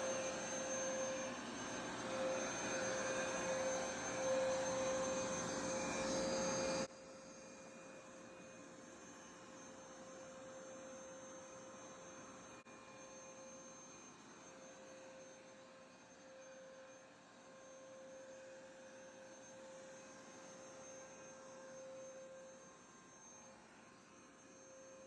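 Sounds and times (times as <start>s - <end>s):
carpet shampooer motor hum with whine: 0.0s - 25.0s.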